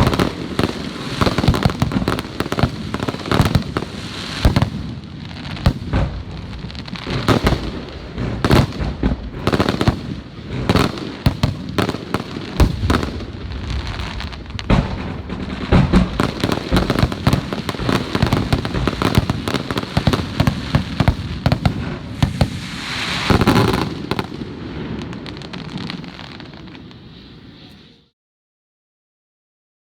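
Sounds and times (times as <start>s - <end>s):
firework shell bursts and crackling: 0.0s - 26.7s.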